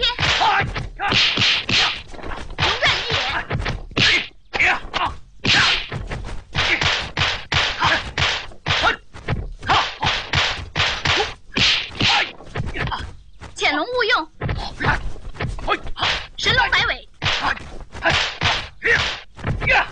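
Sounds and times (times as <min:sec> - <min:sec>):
punch and block whacks and thuds: 0:00.0 - 0:13.1, 0:14.4 - 0:19.9.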